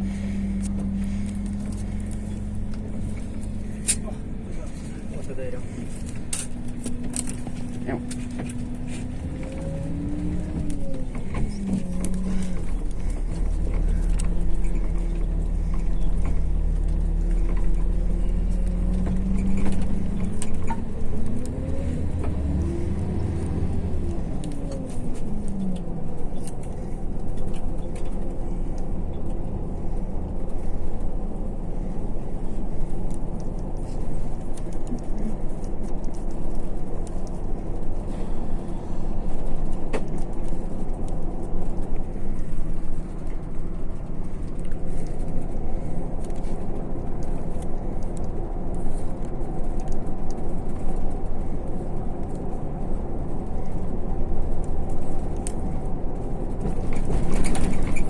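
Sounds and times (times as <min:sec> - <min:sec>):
coach engine rumble: 0:00.0 - 0:58.0
drivetrain whine: 0:00.0 - 0:58.0.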